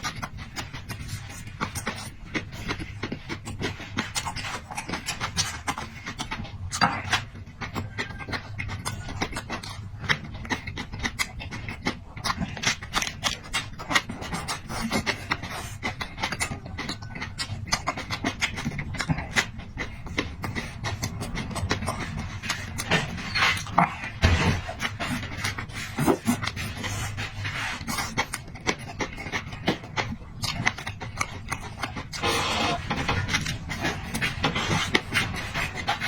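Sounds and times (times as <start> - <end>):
person chewing noisily: 0.0 - 36.0.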